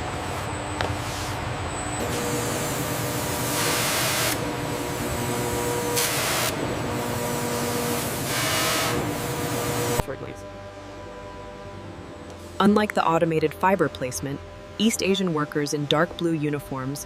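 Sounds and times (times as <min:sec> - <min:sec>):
industrial machinery hum: 0:00.0 - 0:17.0.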